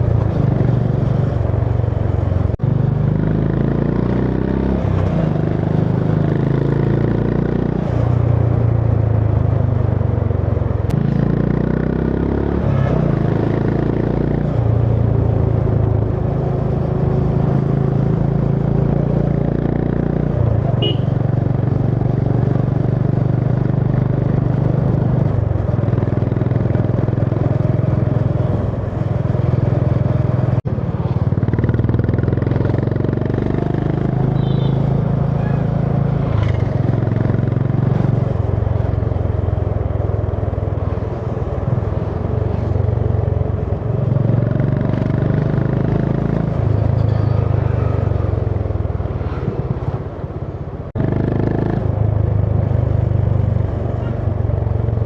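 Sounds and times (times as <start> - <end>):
road and wind noise: 0.0 - 55.0
motorcycle engine running: 5.4 - 55.0.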